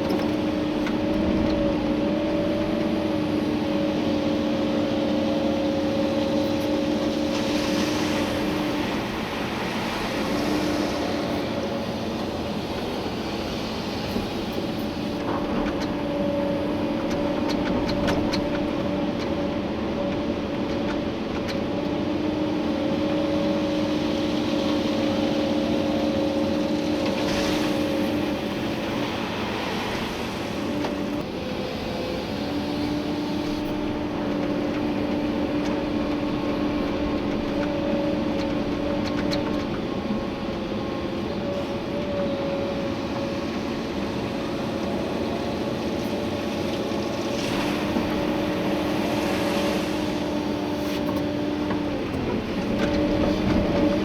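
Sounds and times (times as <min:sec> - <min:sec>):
excavator engine and hydraulics: 0:00.0 - 0:54.0
hydraulic whine: 0:00.0 - 0:54.0.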